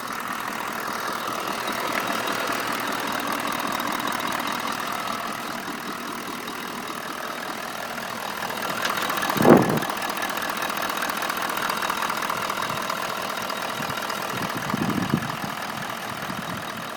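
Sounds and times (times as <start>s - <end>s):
engine idling with knock: 0.0s - 16.9s.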